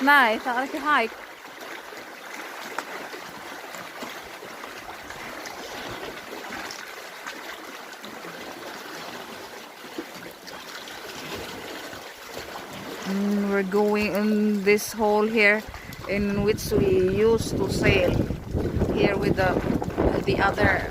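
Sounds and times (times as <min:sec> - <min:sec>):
water splashing and trickling: 0:00.0 - 0:20.9.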